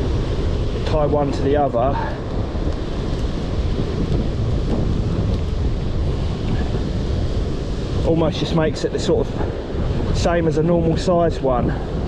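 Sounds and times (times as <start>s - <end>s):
surf washing on rocks: 0.0s - 12.0s
wind buffeting microphone: 0.0s - 12.0s.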